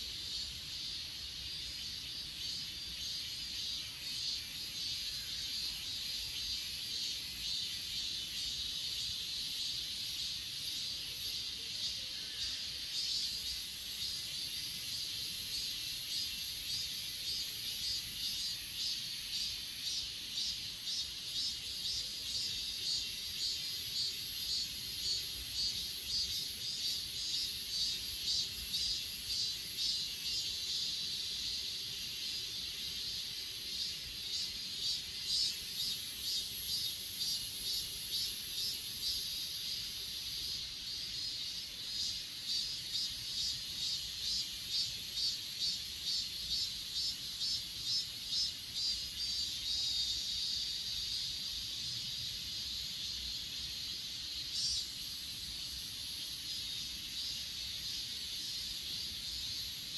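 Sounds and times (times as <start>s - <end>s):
insects trilling: 0.0s - 59.9s
pulsed insect chirping: 0.1s - 59.9s.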